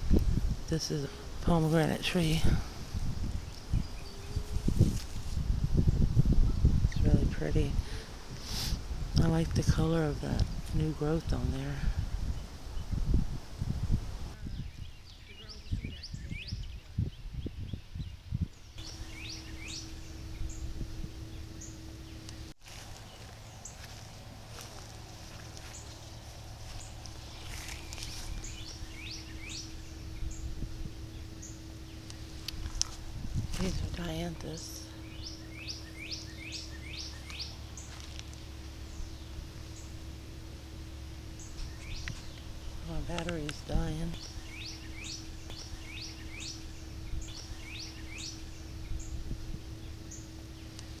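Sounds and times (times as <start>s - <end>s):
wind rumbling on microphone: 0.0s - 22.6s, 23.5s - 51.0s
songbirds chirping: 0.0s - 51.0s.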